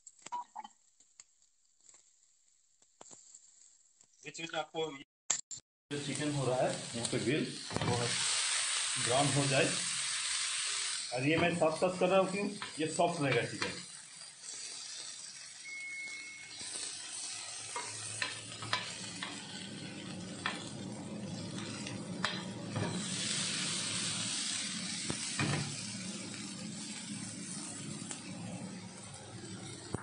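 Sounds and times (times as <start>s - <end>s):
chicken sizzling in a pan: 0.0s - 4.4s, 5.9s - 30.0s.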